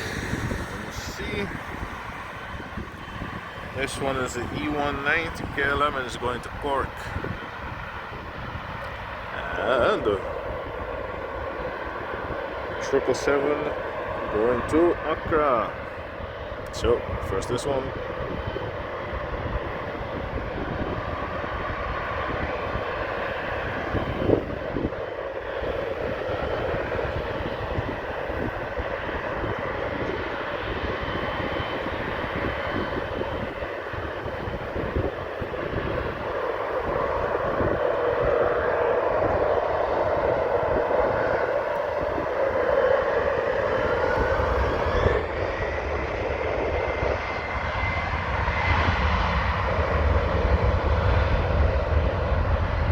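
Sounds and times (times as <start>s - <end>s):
jet engines running: 0.0s - 52.9s
wind rumble: 0.0s - 52.9s.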